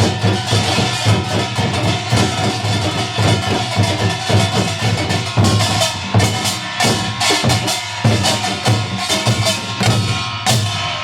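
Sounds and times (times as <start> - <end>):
metal gongs ringing: 0.0 - 10.7
hourglass drums beating: 0.0 - 11.0.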